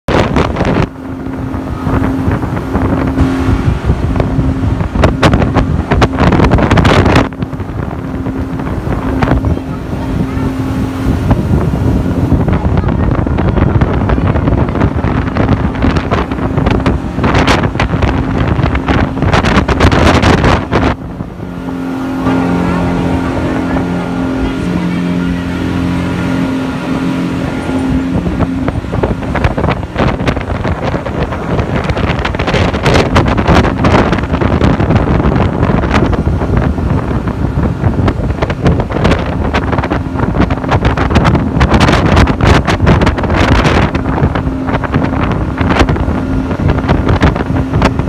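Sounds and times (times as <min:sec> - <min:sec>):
boat engine running: 0:00.0 - 0:48.0
rush of wind and water: 0:00.0 - 0:48.0
wind buffeting microphone: 0:00.0 - 0:48.0.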